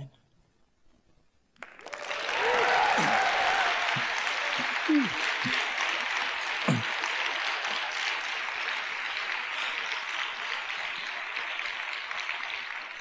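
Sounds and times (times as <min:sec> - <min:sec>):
audience applauding: 0:01.6 - 0:13.0.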